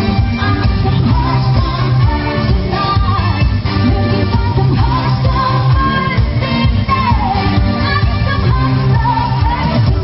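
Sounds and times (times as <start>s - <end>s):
bass line: 0.0s - 10.0s
keyboard accompaniment: 0.0s - 10.0s
woman singing into microphone: 0.0s - 10.0s.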